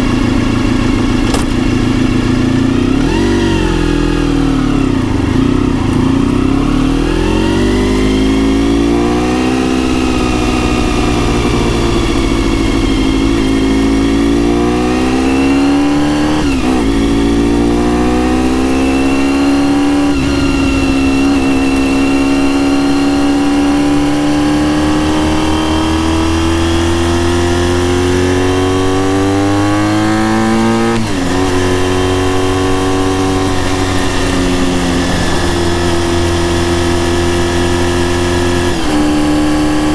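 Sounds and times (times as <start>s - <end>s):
gear changes: 0.0s - 39.9s
motorcycle engine revving under load: 0.0s - 39.9s.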